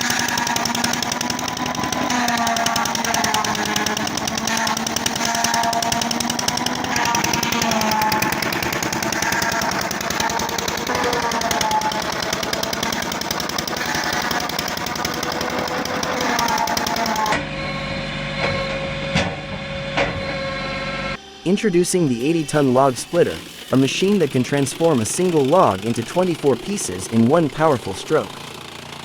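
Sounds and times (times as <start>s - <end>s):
machine beaters clattering: 0.0s - 17.4s, 22.2s - 29.0s
machine hum: 0.0s - 29.0s.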